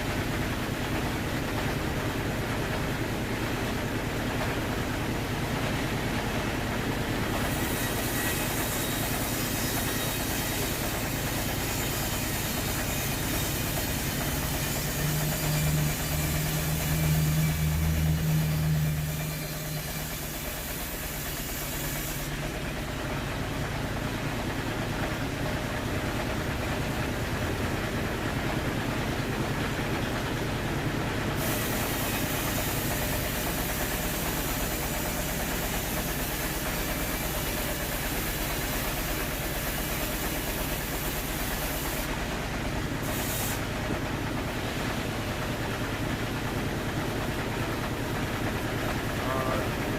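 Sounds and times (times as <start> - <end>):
sawmill machinery humming: 0.0 - 49.9.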